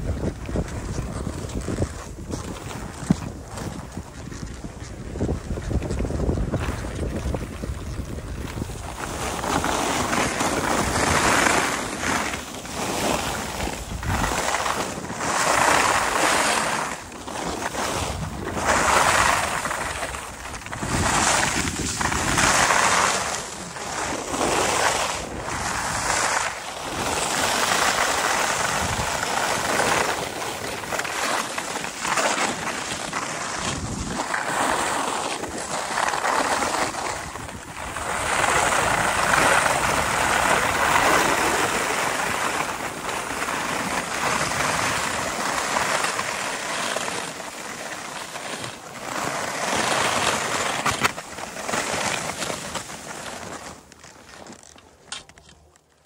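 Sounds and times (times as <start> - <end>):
wind on microphone: 0.0 - 46.6
skis scraping over snow: 0.0 - 56.0.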